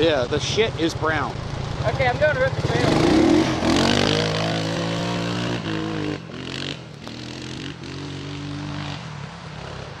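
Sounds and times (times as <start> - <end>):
atv engine pulling away: 0.0 - 10.0.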